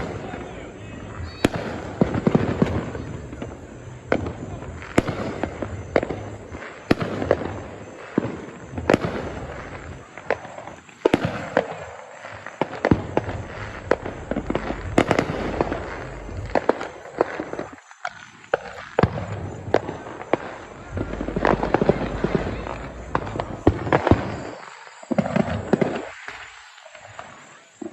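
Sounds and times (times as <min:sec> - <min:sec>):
fireworks bangs: 0:00.0 - 0:27.9
fireworks crackle and rumble: 0:00.0 - 0:27.9.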